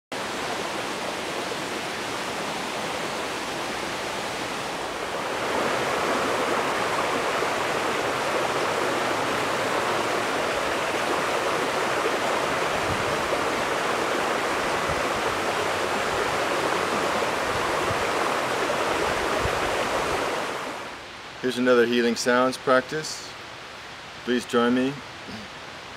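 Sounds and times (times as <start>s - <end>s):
steady rushing noise: 0.2s - 22.2s.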